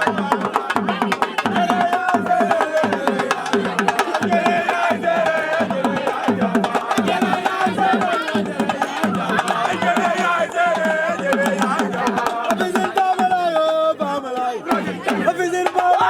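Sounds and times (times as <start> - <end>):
fast drumming: 0.0 - 16.0
person singing: 0.0 - 16.0.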